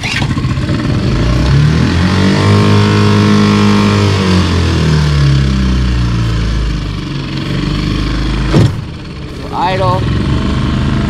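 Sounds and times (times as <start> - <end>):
outboard motor revving: 0.0 - 11.0.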